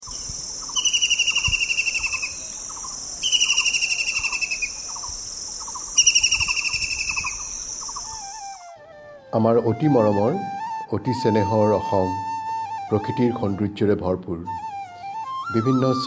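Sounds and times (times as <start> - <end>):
bird trills: 0.0 - 13.4
faint soft bird calls: 0.0 - 13.7, 14.5 - 16.0.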